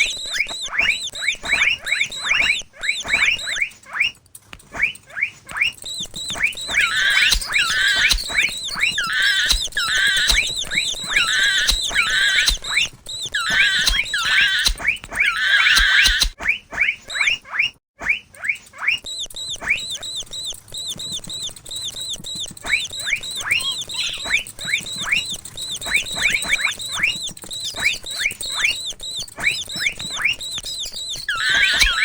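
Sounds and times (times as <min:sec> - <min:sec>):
mouse squeaking: 0:00.0 - 0:17.7, 0:18.4 - 0:32.0.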